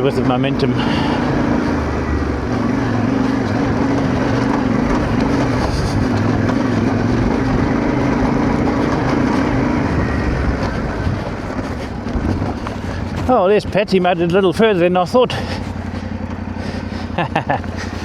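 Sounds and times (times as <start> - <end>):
motorcycle engine under load: 0.0 - 18.0.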